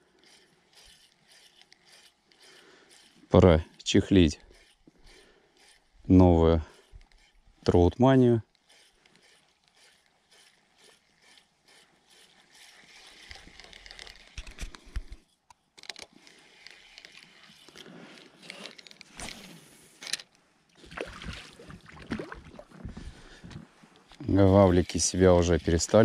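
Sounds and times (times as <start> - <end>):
fishing reel cranking: 0.0 - 20.4, 24.1 - 26.0.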